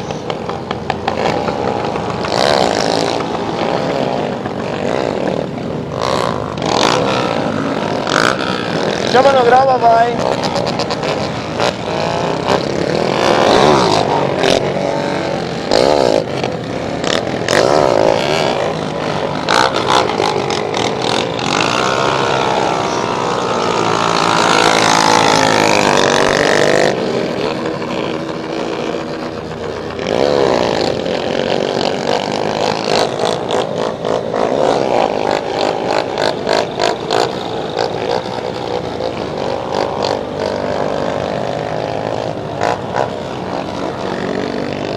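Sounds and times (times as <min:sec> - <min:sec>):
motorcycles revving and passing: 0:00.0 - 0:44.9.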